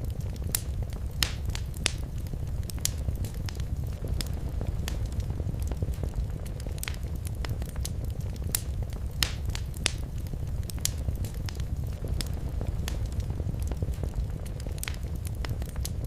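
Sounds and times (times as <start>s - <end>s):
fire popping and snapping: 0.0s - 16.0s
low rumble of flames: 0.0s - 16.0s.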